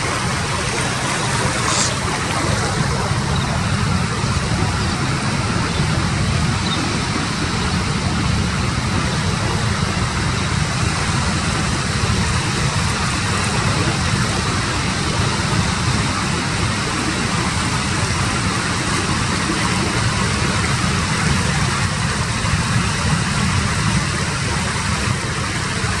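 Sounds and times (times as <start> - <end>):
ocean surf breaking: 0.0 - 24.2
wind rumble on microphone: 0.0 - 26.0.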